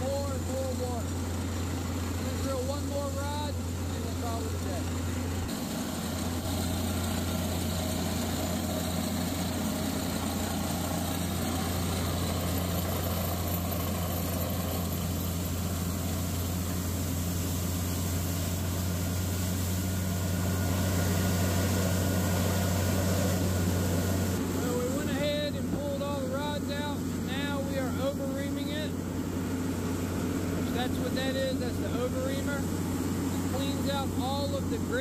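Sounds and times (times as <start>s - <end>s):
drilling rig engine drone: 0.0s - 35.0s
water gushing: 0.0s - 35.0s.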